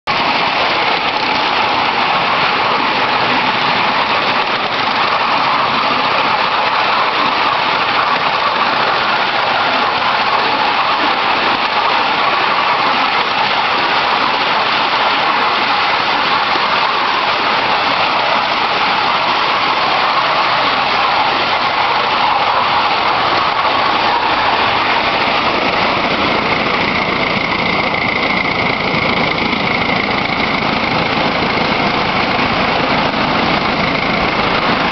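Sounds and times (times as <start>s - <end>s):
model steam train rushing noise: 0.1s - 34.9s
steady high tone: 0.1s - 34.9s.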